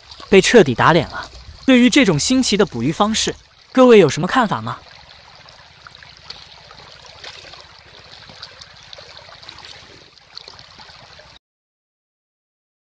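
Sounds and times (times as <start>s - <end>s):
river water trickling: 0.0s - 11.4s
small water splashes: 0.0s - 11.4s.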